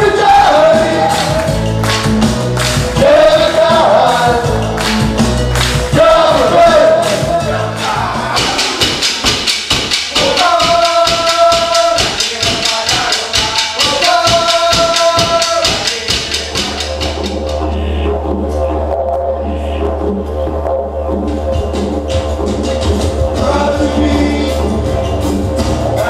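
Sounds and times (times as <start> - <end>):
music with fast beat: 0.0 - 26.0.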